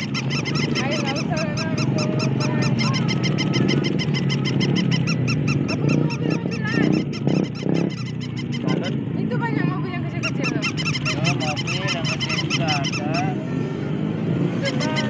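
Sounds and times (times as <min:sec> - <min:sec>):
toys chirping electronically: 0:00.0 - 0:09.0, 0:10.2 - 0:13.4.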